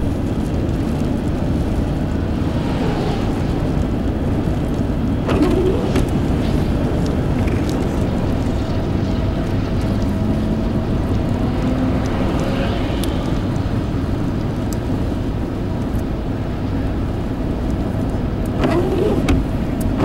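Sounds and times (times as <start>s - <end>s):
tyre noise on wet road: 0.0s - 20.0s.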